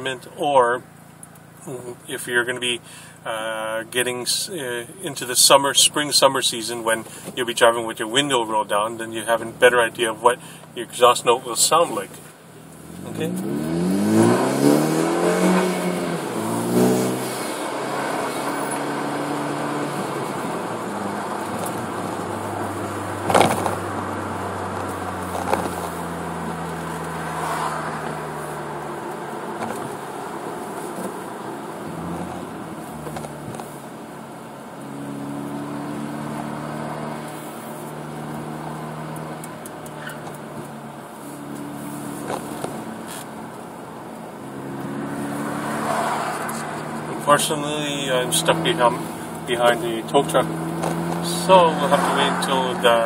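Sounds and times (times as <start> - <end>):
car engine at low revs: 0.0 - 53.0
road and tyre noise: 0.0 - 53.0.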